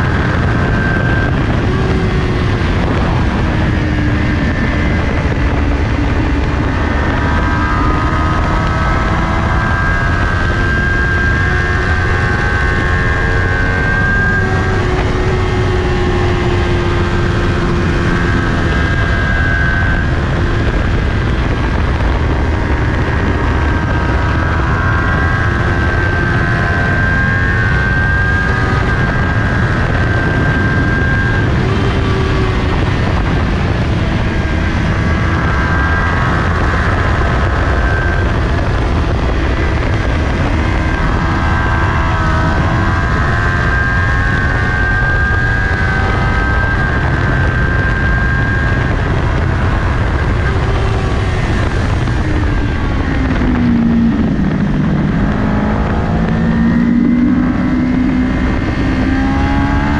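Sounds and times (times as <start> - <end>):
motorcycle engine at high revs: 0.0 - 59.9
wind noise on microphone: 0.0 - 59.9.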